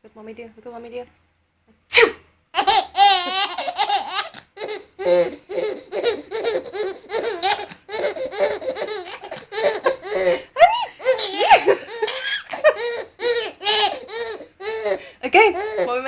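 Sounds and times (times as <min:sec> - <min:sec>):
baby laughing: 0:02.6 - 0:16.0.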